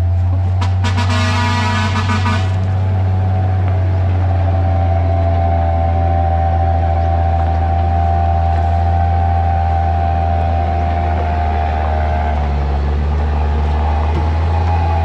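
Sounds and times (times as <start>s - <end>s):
diesel truck engine passing: 0.0s - 15.0s.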